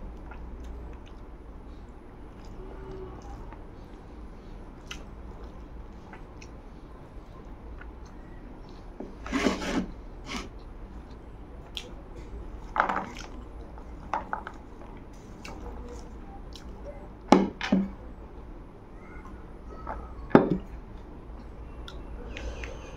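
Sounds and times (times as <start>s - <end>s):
quiet eating noises: 0.0s - 22.9s.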